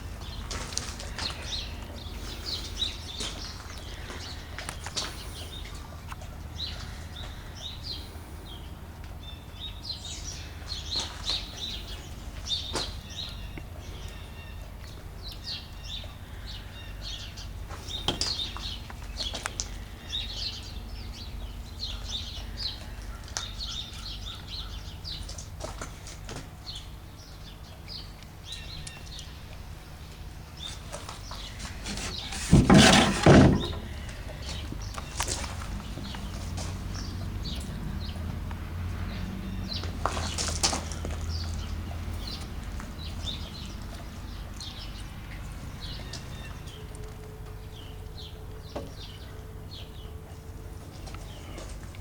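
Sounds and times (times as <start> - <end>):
small birds chirping: 0.0 - 38.3, 38.9 - 52.0.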